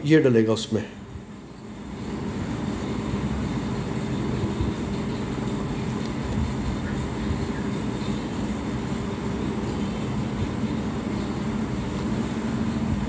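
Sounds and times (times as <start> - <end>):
steady mechanical rumble: 0.0 - 13.0.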